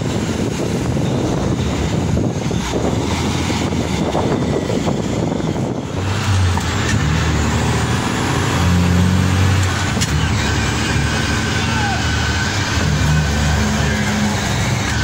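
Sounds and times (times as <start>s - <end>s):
rough outdoor rumble: 0.0s - 15.0s
truck diesel engine from cab: 0.0s - 15.0s.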